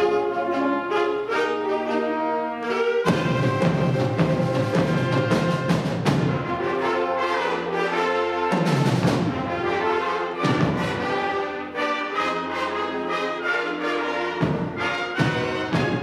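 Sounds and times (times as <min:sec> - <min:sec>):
concert band chords: 0:00.1 - 0:16.0.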